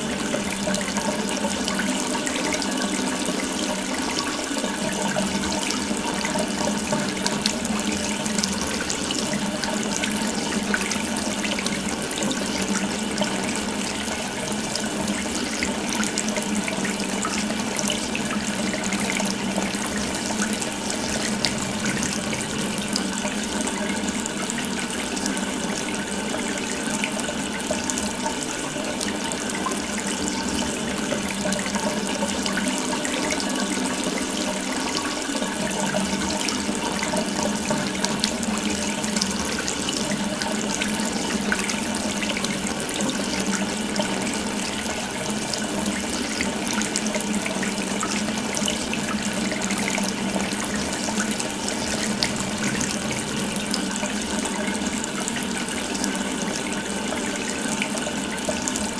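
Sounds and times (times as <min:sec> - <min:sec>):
water running from tap: 0:00.0 - 0:58.9.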